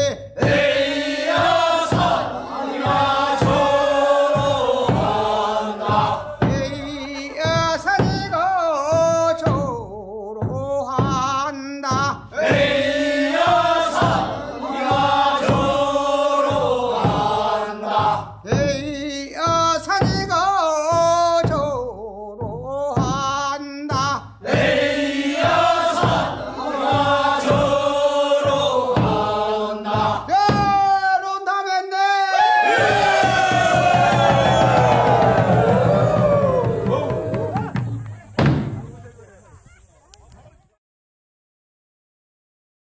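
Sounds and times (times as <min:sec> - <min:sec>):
barrel drum beats: 0:00.0 - 0:31.3, 0:32.4 - 0:39.5
lead voice singing: 0:00.0 - 0:37.8
men singing in chorus: 0:00.4 - 0:21.6, 0:22.4 - 0:37.6.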